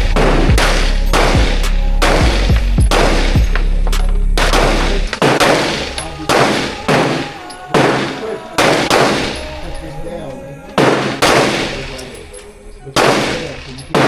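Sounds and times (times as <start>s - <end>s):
handgun shots: 0.2s - 9.6s, 10.7s - 12.2s, 13.0s - 14.0s.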